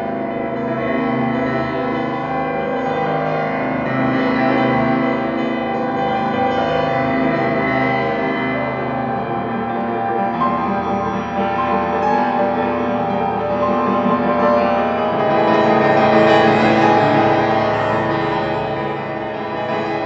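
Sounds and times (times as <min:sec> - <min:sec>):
grand piano chords: 0:00.0 - 0:20.0.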